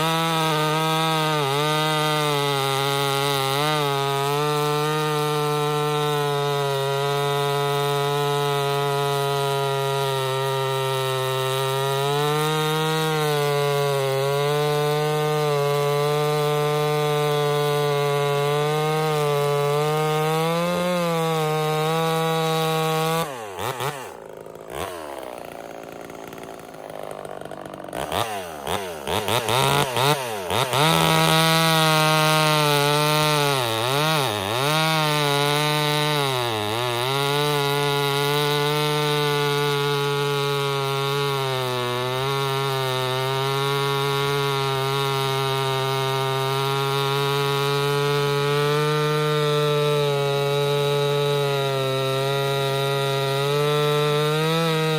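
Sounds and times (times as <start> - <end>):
chainsaw running: 0.0 - 54.9.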